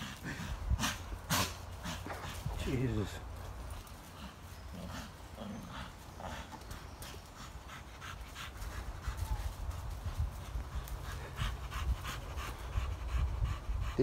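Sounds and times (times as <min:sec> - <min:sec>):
dog panting: 0:00.0 - 0:14.0
paws rustling in dry leaves: 0:00.0 - 0:14.0.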